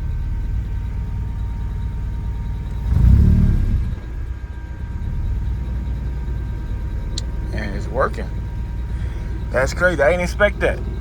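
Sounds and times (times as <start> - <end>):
car engine exhaust rumble: 0.0 - 11.0.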